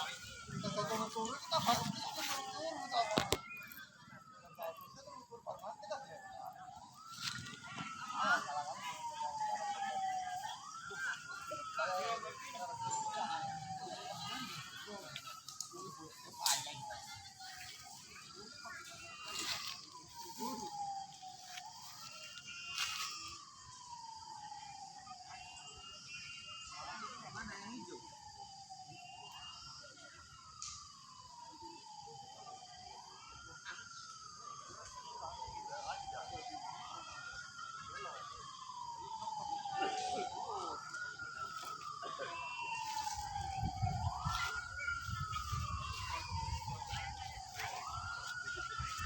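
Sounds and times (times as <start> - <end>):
siren wailing: 0.0 - 49.0.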